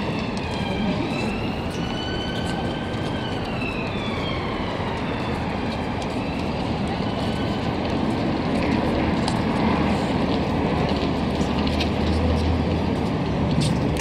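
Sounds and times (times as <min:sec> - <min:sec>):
city traffic noise: 0:00.0 - 0:14.0
emergency siren wailing: 0:00.0 - 0:14.0.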